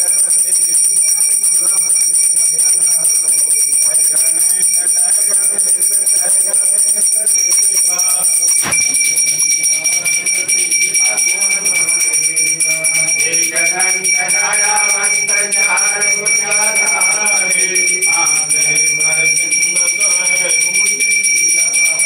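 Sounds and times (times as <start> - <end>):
hand bell ringing rapidly: 0.0 - 22.0
voices singing: 0.0 - 22.0.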